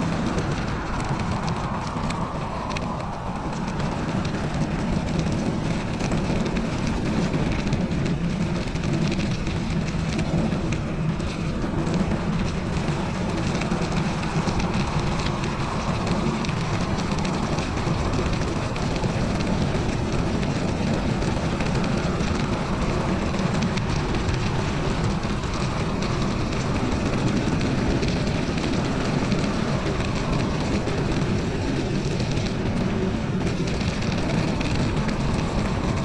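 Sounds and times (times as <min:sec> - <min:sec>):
bicycle tyres rolling on ground: 0:00.0 - 0:36.0
wind on microphone: 0:00.0 - 0:36.0.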